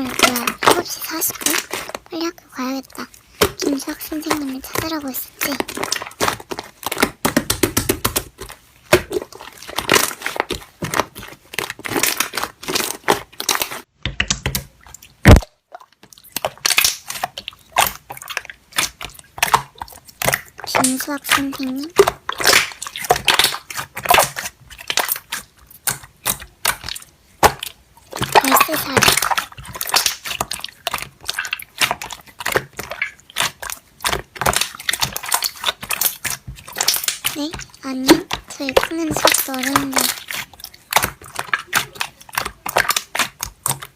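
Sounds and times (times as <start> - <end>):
slime crackling when squished: 0.0 - 43.9
slime popping: 0.0 - 43.9.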